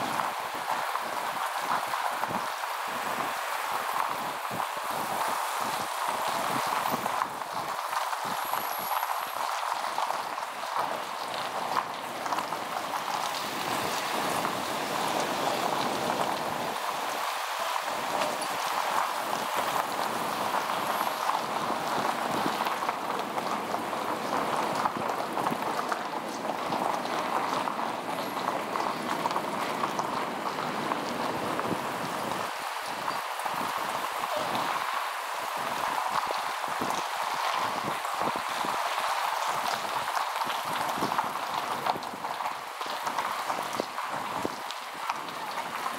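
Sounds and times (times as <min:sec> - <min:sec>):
tyre and wind noise: 0:00.0 - 0:45.9.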